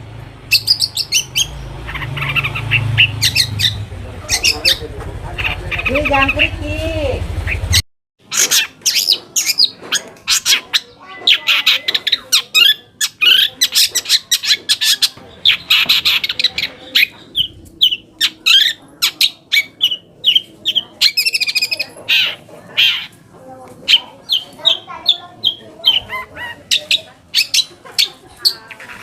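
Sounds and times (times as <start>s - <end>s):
bird chirping and squawking: 0.0s - 29.0s.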